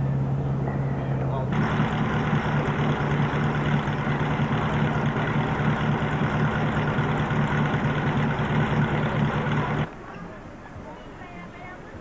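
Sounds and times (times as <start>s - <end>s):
van engine running at low revs: 0.0s - 9.9s.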